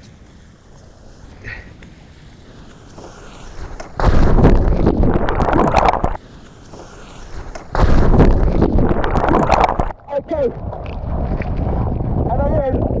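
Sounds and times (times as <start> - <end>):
wind noise: 0.0 - 13.0
water splashing: 2.0 - 13.0.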